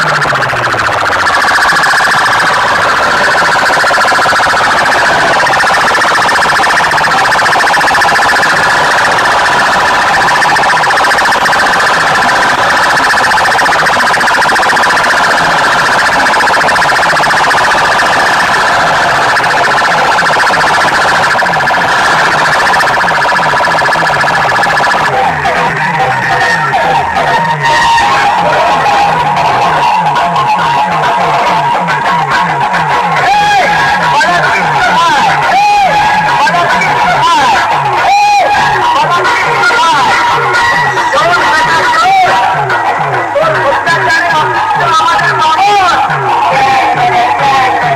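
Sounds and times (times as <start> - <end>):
distorted siren-like wail from loudspeakers: 0.0 - 47.9.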